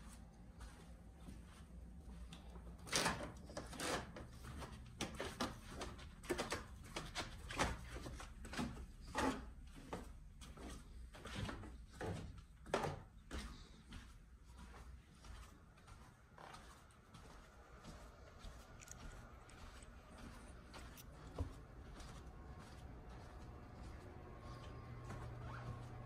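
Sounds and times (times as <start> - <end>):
footsteps on wooden stairs: 4.4 - 26.0.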